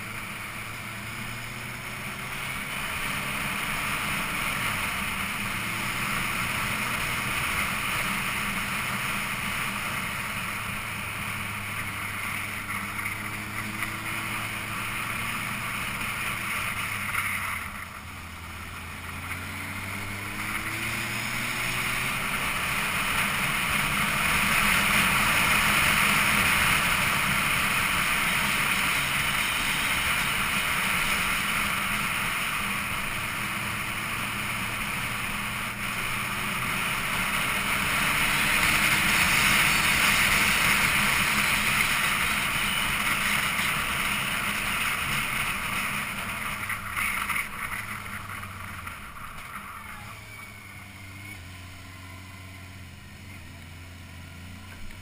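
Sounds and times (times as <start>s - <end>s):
motorcycle engine humming: 0.0s - 55.0s.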